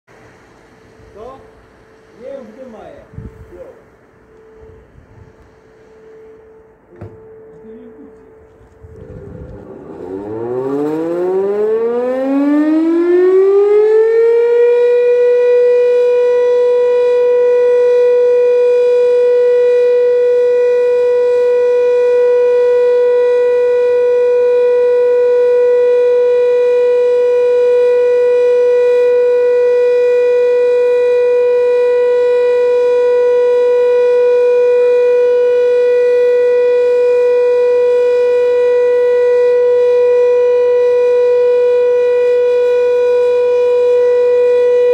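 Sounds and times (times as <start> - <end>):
siren wailing: 0.9 - 44.9.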